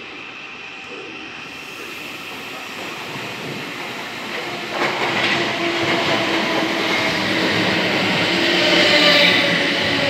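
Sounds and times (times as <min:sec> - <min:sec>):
train rolling on rails: 0:00.0 - 0:10.0.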